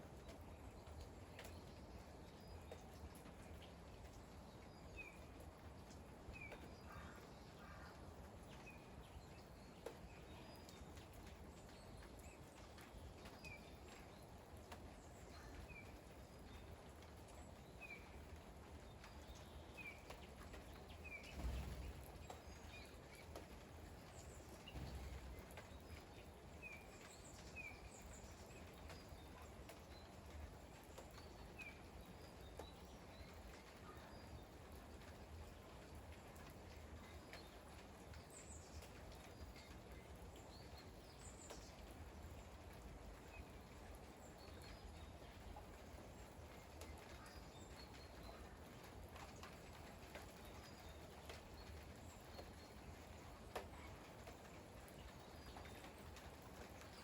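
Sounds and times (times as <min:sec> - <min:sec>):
light rain: 0:00.0 - 0:57.0.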